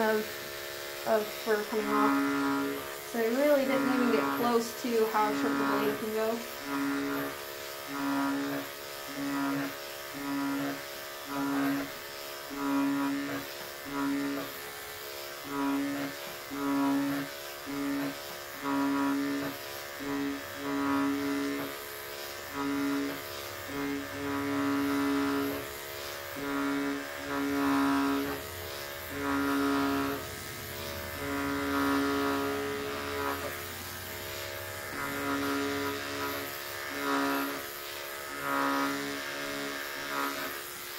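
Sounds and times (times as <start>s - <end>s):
electric clippers humming: 0.0s - 40.9s.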